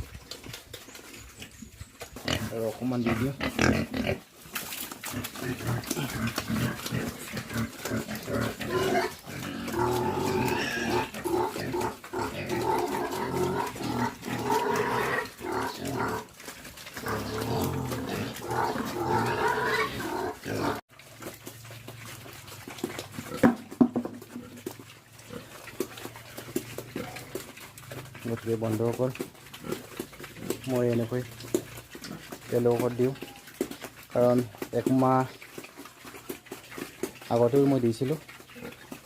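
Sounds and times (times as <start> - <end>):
pigs grunting and squealing: 0.0 - 39.0.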